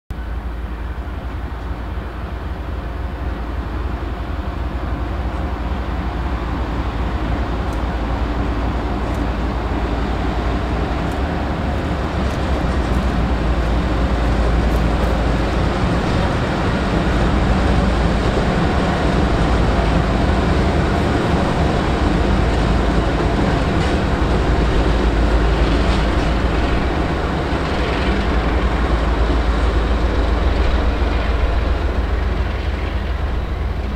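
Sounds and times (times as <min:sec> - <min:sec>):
diesel locomotive rumble: 0:00.1 - 0:33.9
rail noise: 0:00.1 - 0:33.9.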